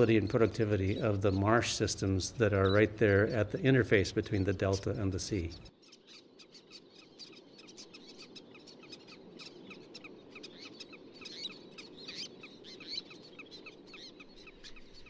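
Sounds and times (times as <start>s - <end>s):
low background hiss: 0.0s - 15.0s
shorebirds chattering: 0.0s - 15.0s.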